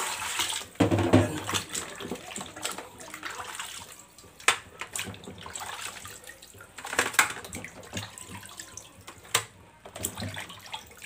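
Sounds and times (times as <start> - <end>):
water splashing in a pot: 0.0 - 11.0.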